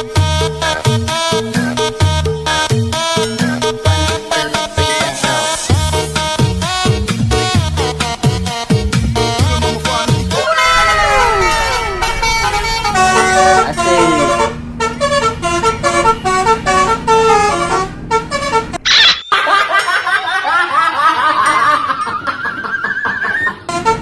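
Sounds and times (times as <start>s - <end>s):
multi-tone bus horn melody: 0.0s - 18.9s, 23.6s - 24.0s.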